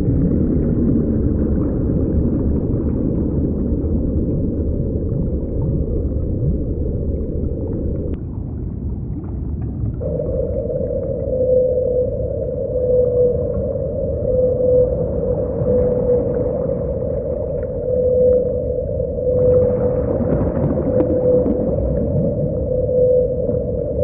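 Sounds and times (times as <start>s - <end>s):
low dense underwater rumble: 0.0s - 24.0s
steady droning tone: 0.0s - 24.0s.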